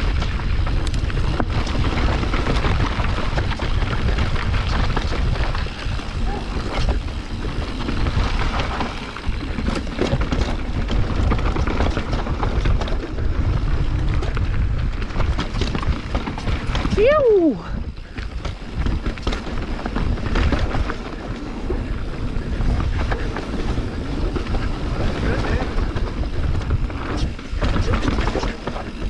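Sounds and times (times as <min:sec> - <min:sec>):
bike chain and frame rattling: 0:00.0 - 0:29.0
bike tyres crunching on dirt: 0:00.0 - 0:29.0
wind buffeting microphone: 0:00.0 - 0:29.0.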